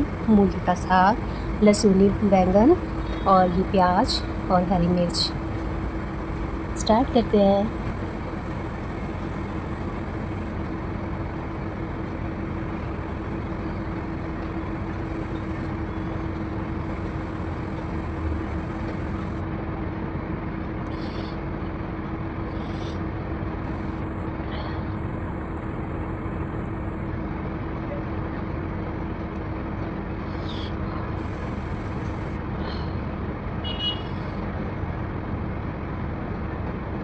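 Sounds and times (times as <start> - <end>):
machine hum with low tone: 0.0 - 37.0.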